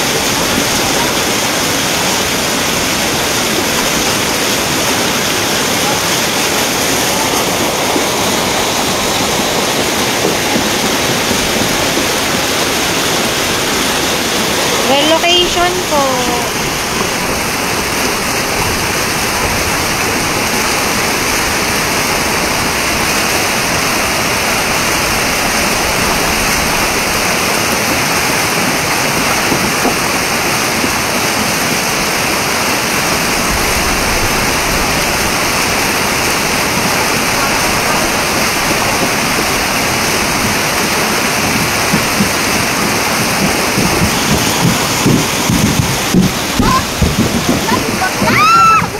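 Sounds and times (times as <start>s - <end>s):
floodwater rushing: 0.0s - 48.9s.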